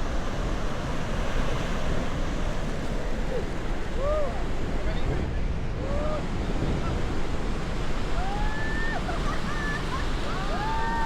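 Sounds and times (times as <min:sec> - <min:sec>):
surf breaking on beach: 0:00.0 - 0:11.0
wind: 0:00.0 - 0:11.0.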